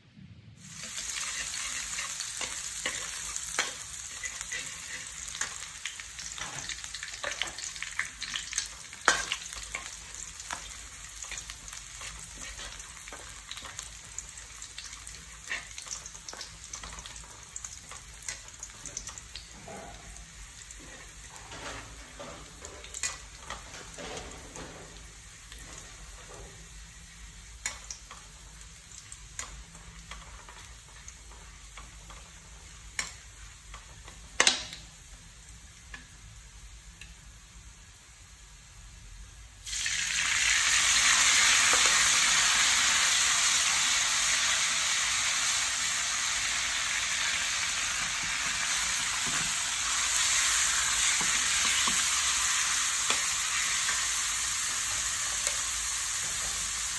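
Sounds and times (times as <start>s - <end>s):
loud steady sizzle: 0.0s - 56.9s
garlic frying softly in a pan: 0.6s - 56.9s.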